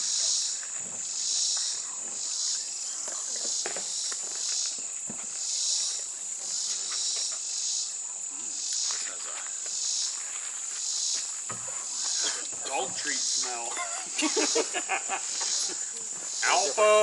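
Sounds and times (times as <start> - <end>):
insects buzzing shrilly: 0.0 - 17.0.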